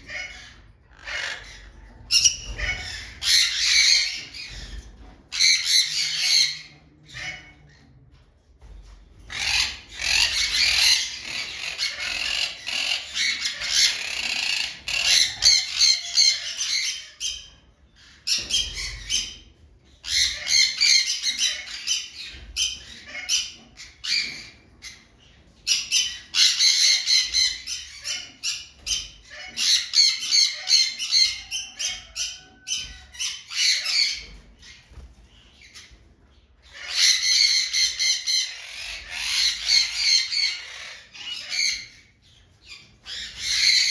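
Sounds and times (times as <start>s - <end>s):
birds chattering and squawking: 0.0s - 43.9s.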